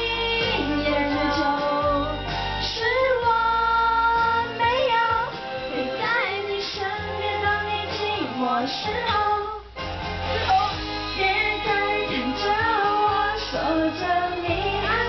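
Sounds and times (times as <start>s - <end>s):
woman singing karaoke: 0.0s - 9.7s, 10.4s - 15.0s
backing track music: 0.0s - 15.0s.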